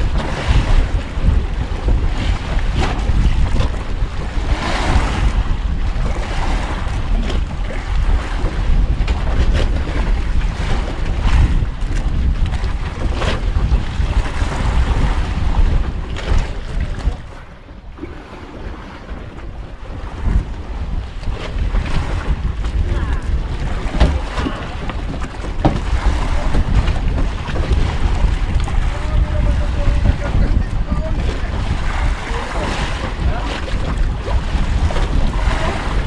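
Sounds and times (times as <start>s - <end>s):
waves washing: 0.0s - 36.0s
wind buffeting microphone: 0.0s - 36.0s.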